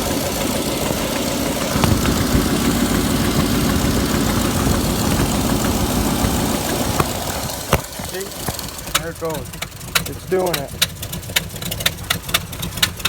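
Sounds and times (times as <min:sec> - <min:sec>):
engine idling roughly: 0:00.0 - 0:13.0.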